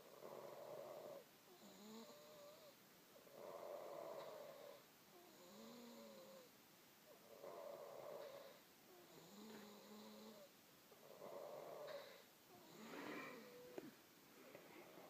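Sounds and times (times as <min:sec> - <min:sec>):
person snoring faintly: 0:00.0 - 0:06.5, 0:07.1 - 0:15.0.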